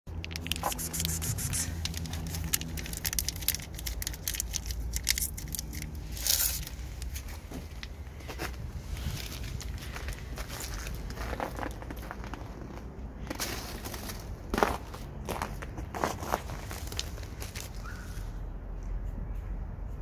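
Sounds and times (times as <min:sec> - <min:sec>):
rustling among dry leaves and debris: 0:00.1 - 0:18.4.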